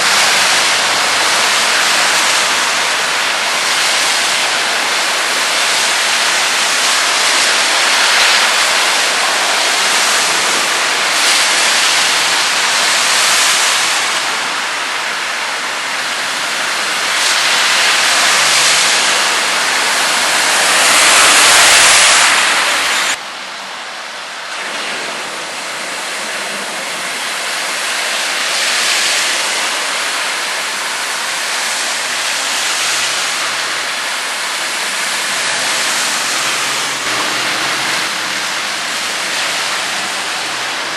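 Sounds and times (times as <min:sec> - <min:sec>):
heavy rain: 0:00.0 - 0:40.9
water spray on road: 0:00.0 - 0:40.9.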